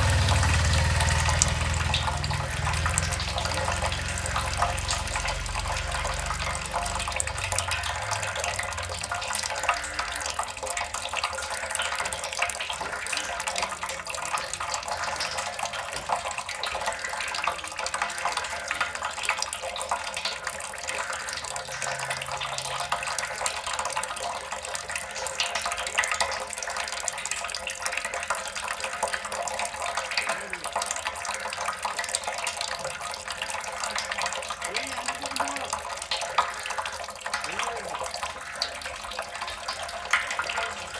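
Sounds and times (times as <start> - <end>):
water drops splashing: 0.0 - 40.9.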